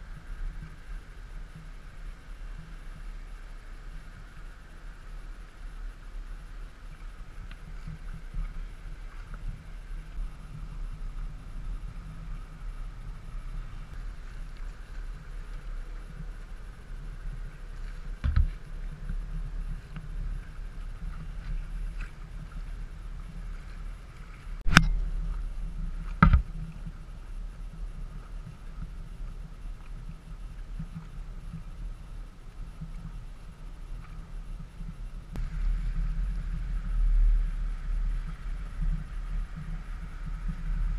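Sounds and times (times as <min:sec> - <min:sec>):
water: 0:00.0 - 0:40.9.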